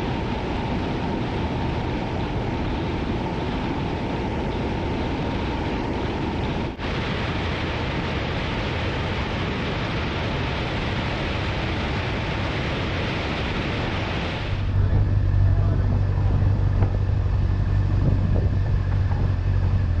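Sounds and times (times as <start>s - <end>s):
low engine drone: 0.0s - 20.0s
wind and road noise: 0.0s - 20.0s.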